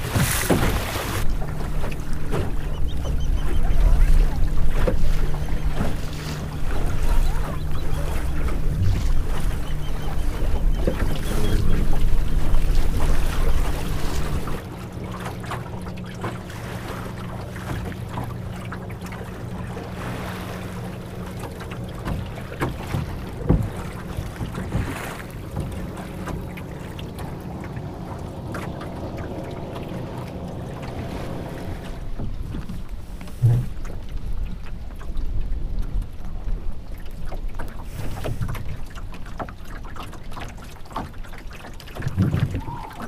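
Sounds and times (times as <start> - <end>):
water slapping against hull: 0.0 - 43.0
water splashes: 0.0 - 43.0.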